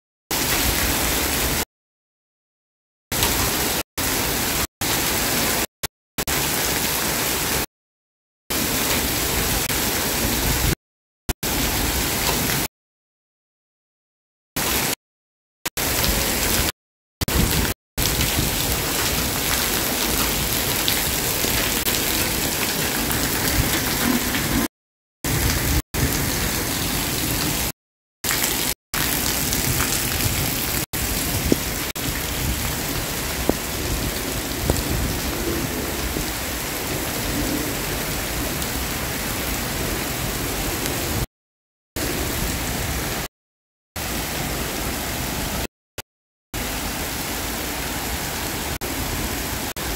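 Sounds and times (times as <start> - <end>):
heavy rain pouring: 0.3 - 1.6, 3.1 - 7.7, 8.5 - 10.8, 11.4 - 12.7, 14.6 - 15.0, 15.8 - 24.7, 25.3 - 41.3, 42.0 - 43.3, 44.0 - 45.7, 46.6 - 49.9.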